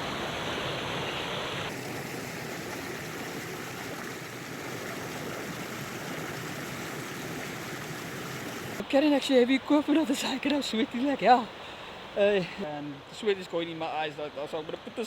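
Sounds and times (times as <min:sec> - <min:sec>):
river water over rocks: 0:00.0 - 0:15.0.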